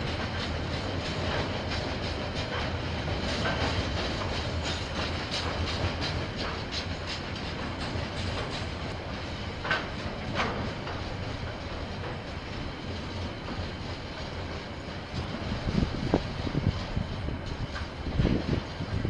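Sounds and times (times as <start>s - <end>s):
train rumble: 0.0s - 19.0s
train wheels clicking over rail joints: 0.0s - 19.0s.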